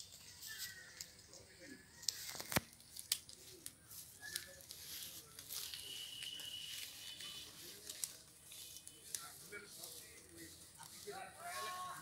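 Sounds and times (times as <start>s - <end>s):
goats chewing leaves: 0.0s - 12.0s
leaves crackling and rustling: 0.0s - 12.0s.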